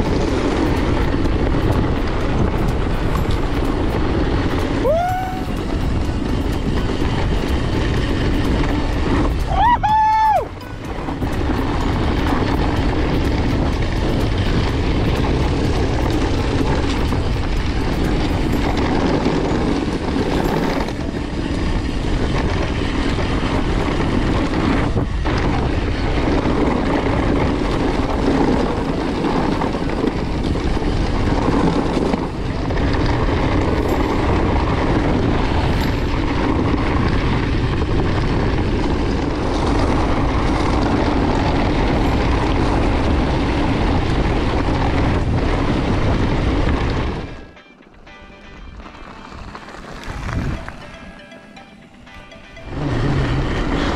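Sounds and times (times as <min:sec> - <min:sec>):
wind rushing over microphone: 0:00.0 - 0:47.6, 0:48.6 - 0:51.0, 0:52.2 - 0:53.9.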